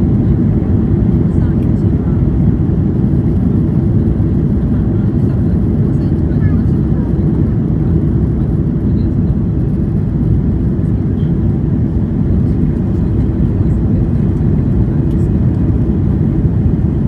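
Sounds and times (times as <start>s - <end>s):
airplane cabin engine drone: 0.0s - 17.0s.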